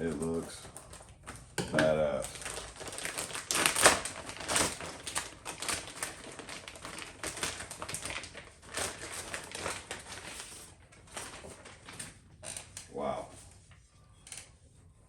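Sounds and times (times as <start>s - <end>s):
bubble wrap crinkling: 0.0s - 14.9s.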